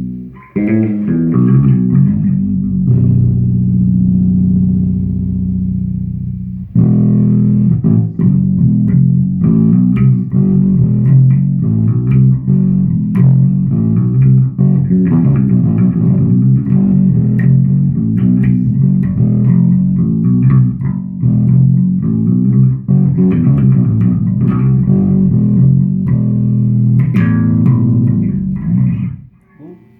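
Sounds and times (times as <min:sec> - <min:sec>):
electric bass guitar notes: 0:00.0 - 0:29.7.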